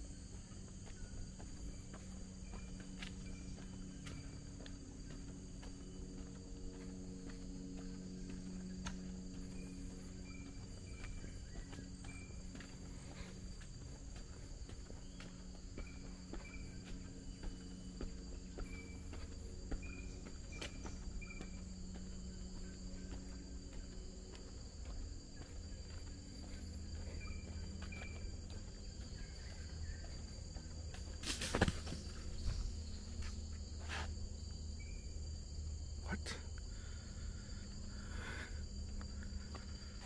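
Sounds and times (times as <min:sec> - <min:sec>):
footsteps on a path: 0:00.0 - 0:35.9, 0:36.6 - 0:40.0
insects droning: 0:00.0 - 0:40.0.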